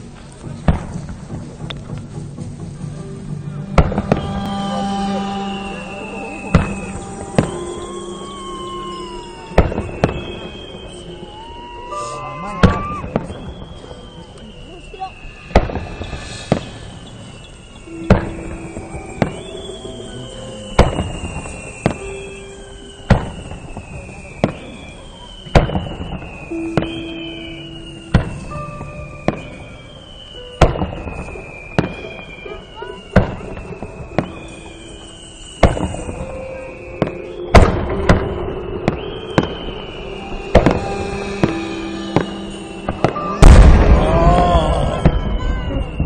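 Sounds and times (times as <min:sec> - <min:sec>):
fireworks bangs with echo: 0:00.0 - 0:02.8, 0:03.5 - 0:46.0
whistling tones sliding down: 0:04.0 - 0:46.0.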